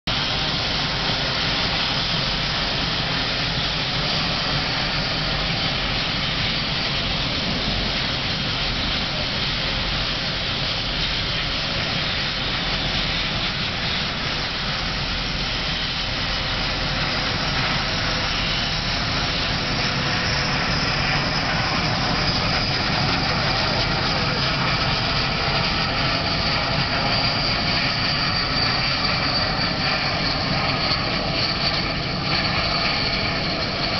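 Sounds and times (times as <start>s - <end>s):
jet engines with high whine: 0.1s - 33.9s.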